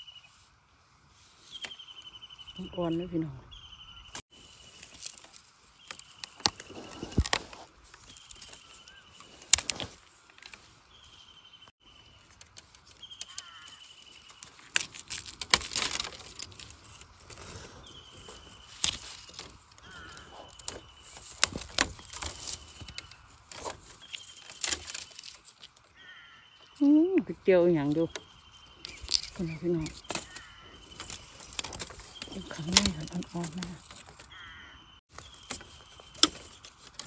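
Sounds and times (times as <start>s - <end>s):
dry bamboo leaves crunching: 0.0s - 3.2s, 4.0s - 37.0s.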